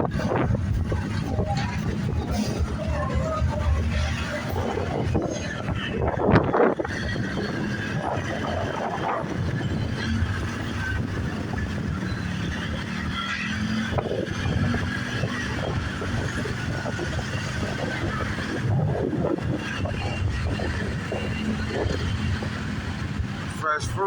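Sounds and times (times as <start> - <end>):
road and traffic noise: 0.0 - 24.0.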